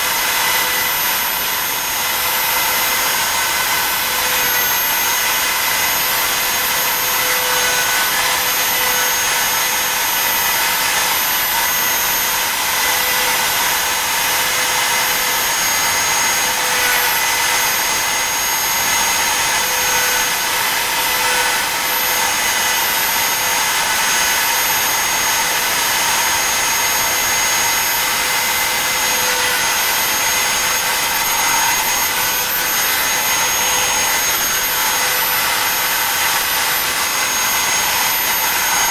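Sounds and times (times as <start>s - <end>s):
bit cutting into wood: 0.0s - 38.9s
router spindle whining: 0.0s - 38.9s.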